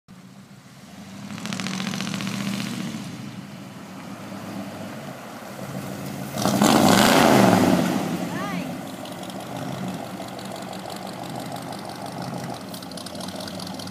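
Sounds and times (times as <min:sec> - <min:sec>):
car engine revving: 0:00.2 - 0:13.9.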